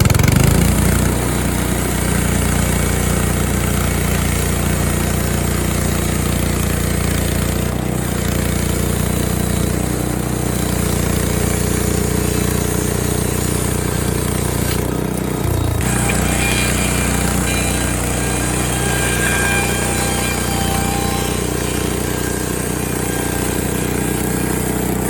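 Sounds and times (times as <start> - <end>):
bandsaw mill engine cutting log: 0.0 - 25.0.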